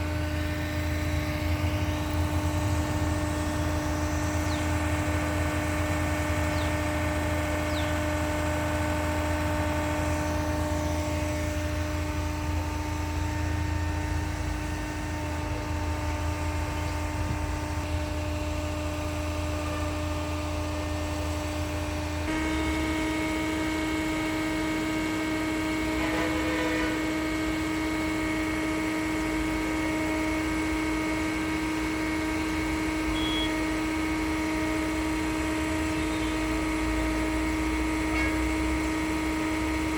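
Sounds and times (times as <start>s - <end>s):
concrete pump droning: 0.0s - 39.9s.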